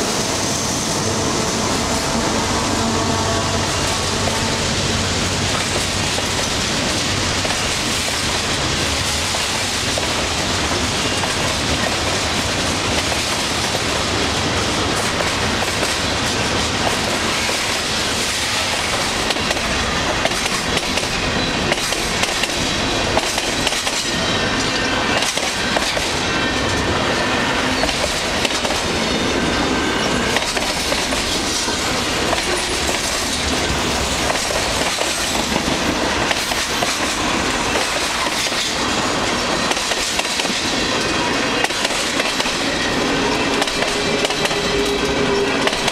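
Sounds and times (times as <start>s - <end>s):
train wheels rumbling on rails: 0.0s - 45.9s
wheels clacking over rail joints: 5.4s - 45.9s.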